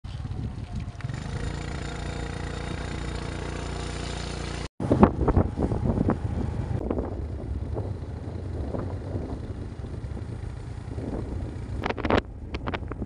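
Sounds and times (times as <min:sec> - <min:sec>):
wind buffeting microphone: 0:00.1 - 0:02.4, 0:04.8 - 0:13.0
vehicle engine running: 0:00.1 - 0:13.0.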